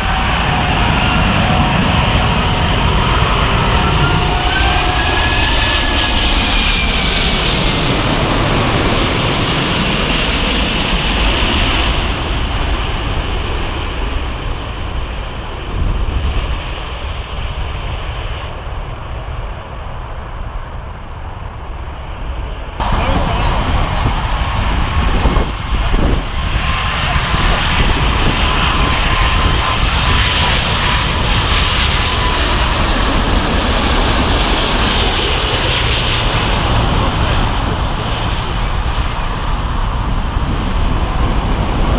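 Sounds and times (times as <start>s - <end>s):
jet airliner passing overhead: 0.0s - 41.9s.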